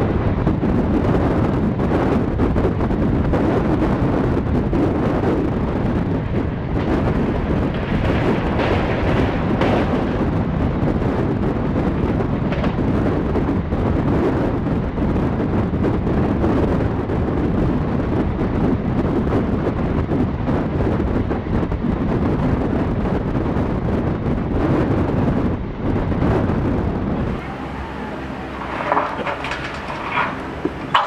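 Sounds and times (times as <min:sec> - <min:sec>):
train rumbling at speed: 0:00.0 - 0:31.0
wind rushing over microphone: 0:00.0 - 0:31.0.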